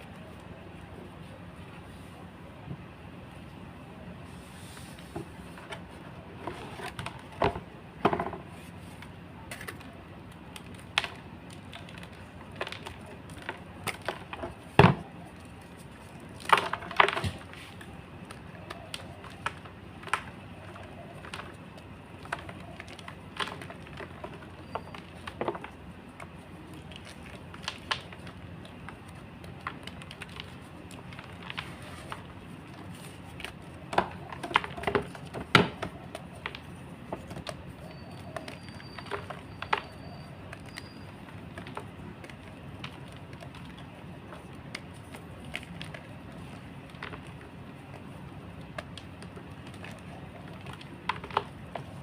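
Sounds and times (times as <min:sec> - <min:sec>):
chalk blocks crunching: 0:08.4 - 0:52.0.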